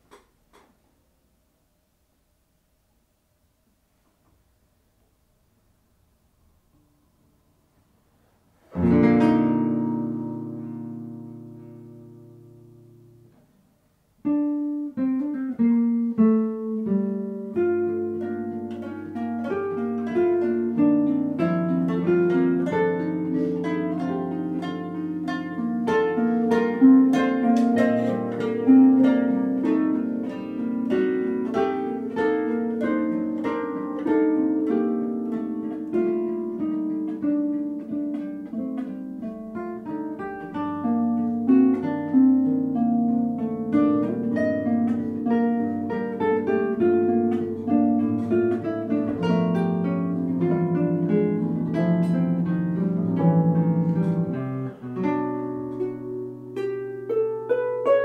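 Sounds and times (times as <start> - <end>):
harp guitar and mandolin trio: 8.7 - 13.3, 14.2 - 58.0.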